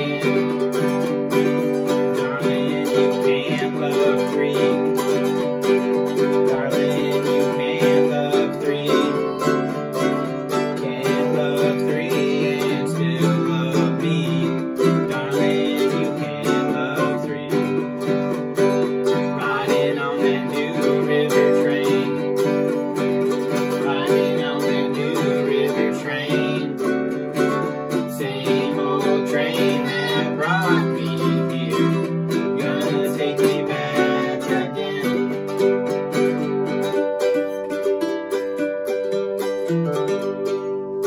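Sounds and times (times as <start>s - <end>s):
girl singing: 0.0s - 36.0s
mandolin strummed: 0.0s - 41.0s
small four-string guitar strummed: 0.0s - 41.0s.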